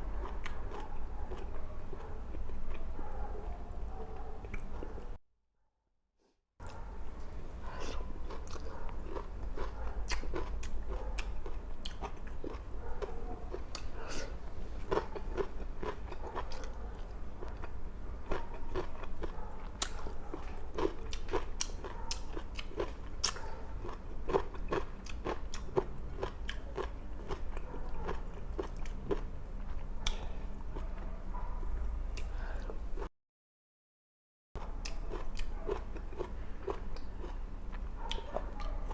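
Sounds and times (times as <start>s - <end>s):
chewing and biting food: 0.1s - 3.3s, 7.5s - 32.8s, 34.6s - 38.9s.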